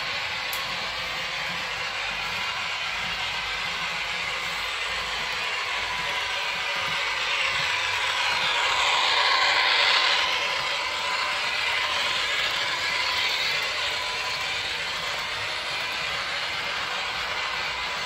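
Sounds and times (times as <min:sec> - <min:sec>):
model train motor whine: 0:00.0 - 0:18.0.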